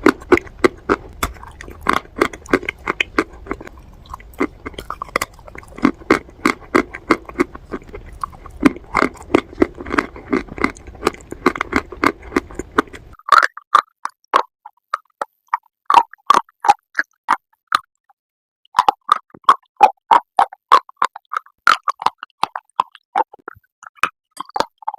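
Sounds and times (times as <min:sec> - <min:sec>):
crunching and chewing clay: 0:00.0 - 0:24.9.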